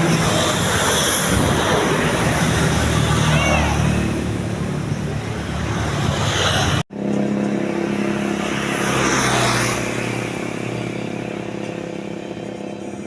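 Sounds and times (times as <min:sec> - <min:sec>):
vehicle passing by: 0:00.0 - 0:12.6.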